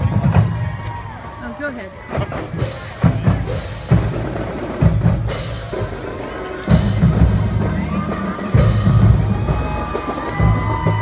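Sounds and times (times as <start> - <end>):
marching band drumline: 0.0 - 11.0.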